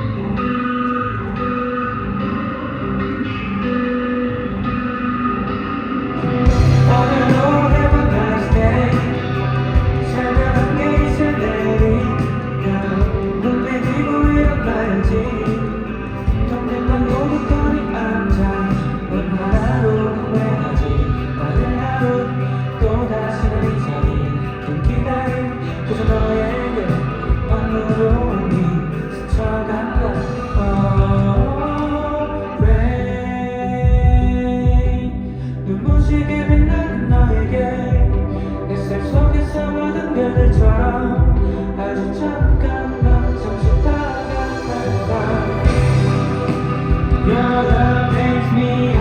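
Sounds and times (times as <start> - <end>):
amplified pop music: 0.0 - 49.0
bass guitar: 0.0 - 49.0
drums: 0.0 - 49.0
electric guitar: 0.0 - 49.0
person singing: 5.7 - 49.0.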